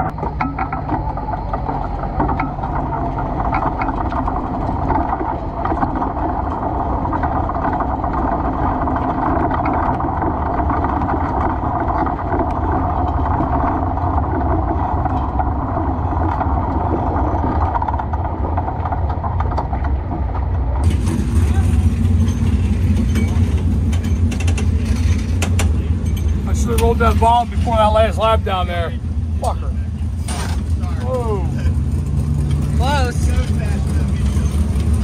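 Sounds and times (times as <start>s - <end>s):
race car engine running: 0.0s - 35.0s.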